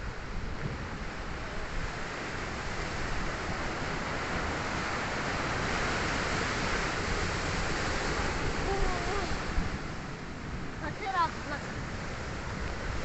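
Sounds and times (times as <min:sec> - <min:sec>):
sea waves washing onto shore: 0:00.0 - 0:13.0
wind rumbling on microphone: 0:00.0 - 0:13.0.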